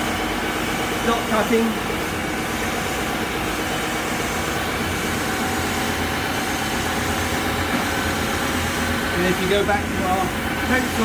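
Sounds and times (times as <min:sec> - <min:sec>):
board feeding through conveyor: 0:00.0 - 0:11.0
dust extractor running: 0:00.0 - 0:11.0
wide-belt sanding machine running: 0:00.0 - 0:11.0.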